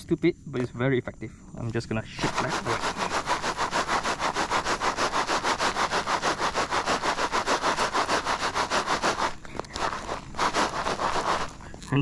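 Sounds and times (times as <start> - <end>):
soil scraping in shaken box: 2.1 - 12.0.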